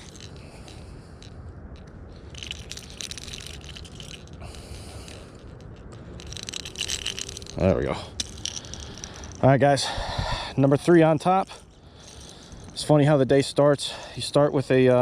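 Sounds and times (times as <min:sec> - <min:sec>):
fishing reel clicking and rattling: 0:00.0 - 0:13.1.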